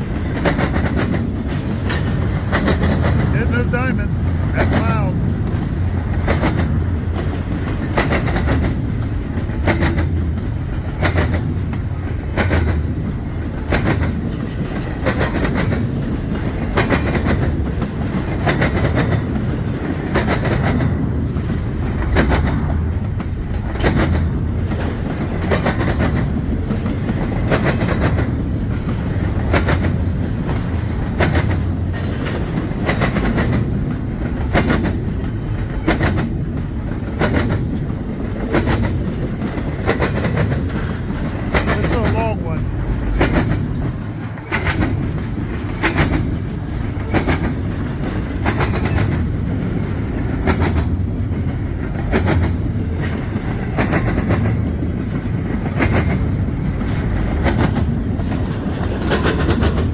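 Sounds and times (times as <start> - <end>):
low rumble of train cars: 0.0 - 59.9
train wheels clacking over crossing: 0.0 - 59.9.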